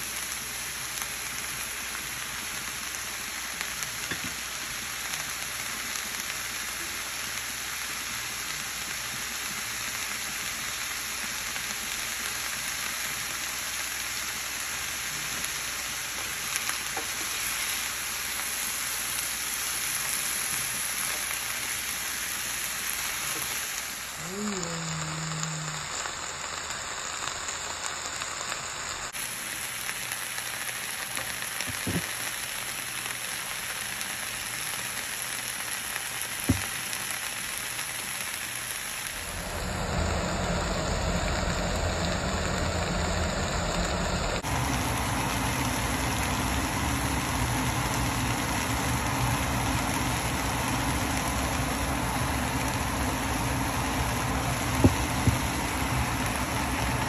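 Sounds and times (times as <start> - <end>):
vegetables sizzling in a skillet: 0.0 - 57.0.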